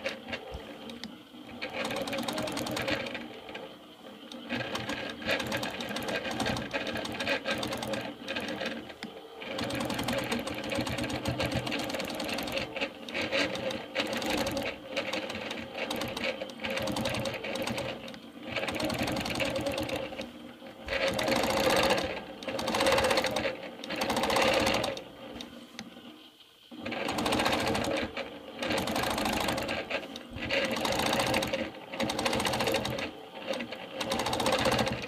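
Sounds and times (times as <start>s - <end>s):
quilting machine stitching: 0.0s - 26.1s, 26.7s - 35.0s.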